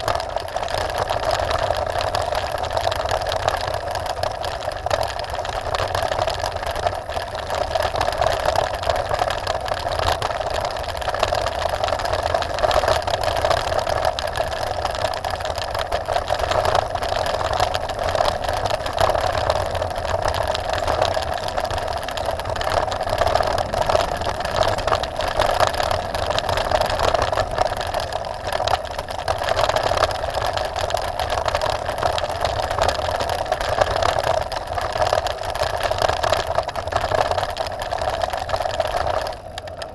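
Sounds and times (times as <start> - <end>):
bike rattling: 0.0 - 39.9
bike tyres on loose gravel: 0.0 - 39.9.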